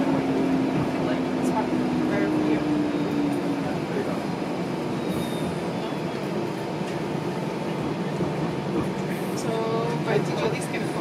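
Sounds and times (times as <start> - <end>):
streetcar body rattling: 0.0 - 11.0
streetcar motors: 0.0 - 11.0.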